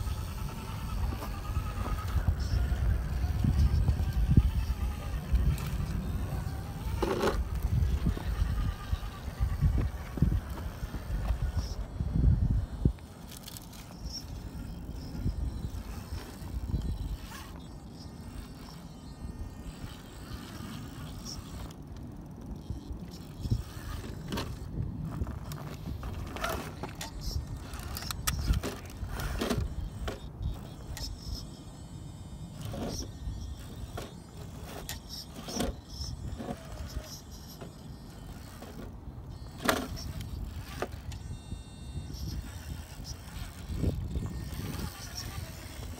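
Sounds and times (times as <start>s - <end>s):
small electric motor running: 0.0s - 45.9s.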